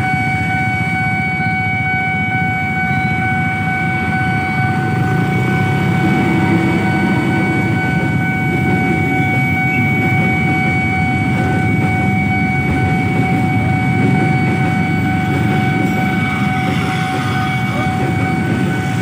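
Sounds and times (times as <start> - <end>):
freight train rumbling past: 0.0 - 19.0
steady high tone: 0.0 - 19.0.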